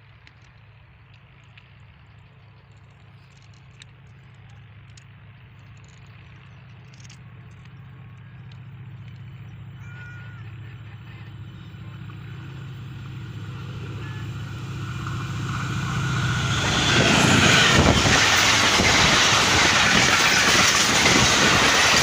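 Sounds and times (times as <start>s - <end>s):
diesel locomotive rumble: 0.0s - 22.0s.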